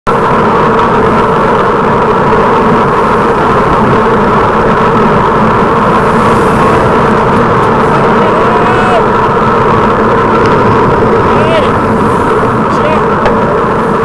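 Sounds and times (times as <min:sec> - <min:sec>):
wind and road noise rushing: 0:00.0 - 0:14.0.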